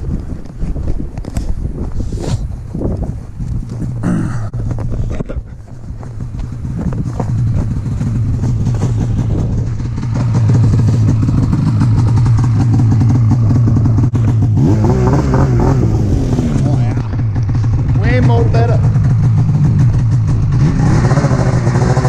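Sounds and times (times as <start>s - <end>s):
snowmobile engine running: 1.4s - 22.0s.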